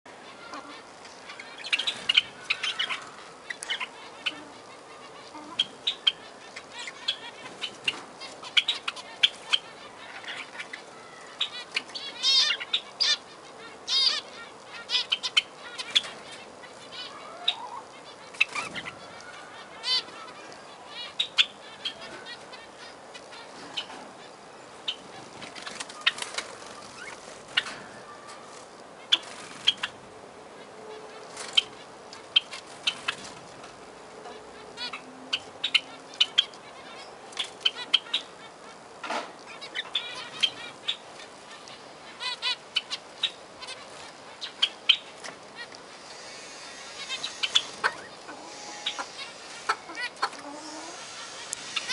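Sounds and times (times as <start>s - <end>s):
finches calling: 0.2s - 33.5s, 34.2s - 51.9s.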